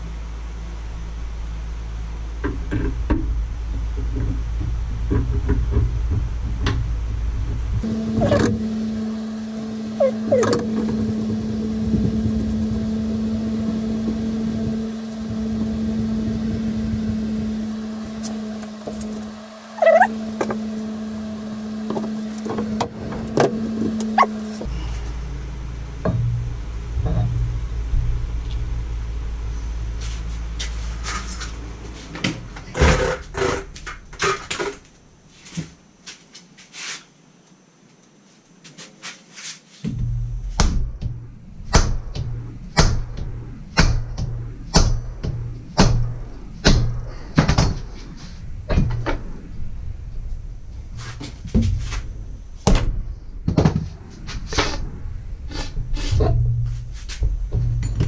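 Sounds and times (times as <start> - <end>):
steady low hum: 0.0 - 36.3, 39.8 - 58.0.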